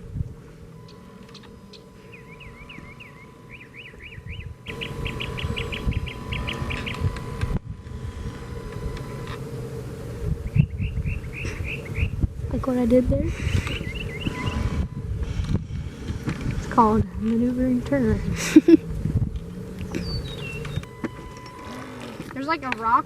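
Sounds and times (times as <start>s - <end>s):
low hum: 0.0s - 23.0s
low rumbling noise: 0.0s - 23.0s
songbird chirping: 0.0s - 23.0s.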